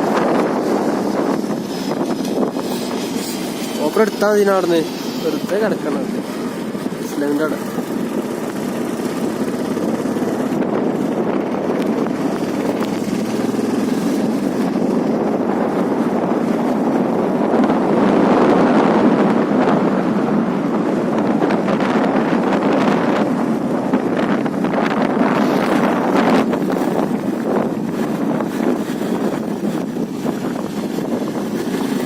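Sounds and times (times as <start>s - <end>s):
motorcycle engine and road noise: 0.0s - 32.0s
wind buffeting microphone: 0.0s - 32.0s.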